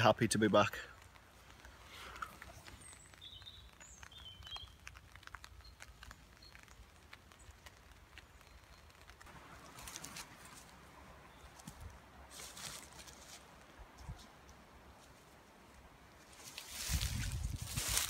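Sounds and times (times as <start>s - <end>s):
faint birds chirping: 0.2s - 16.4s
rustling: 0.8s - 18.0s.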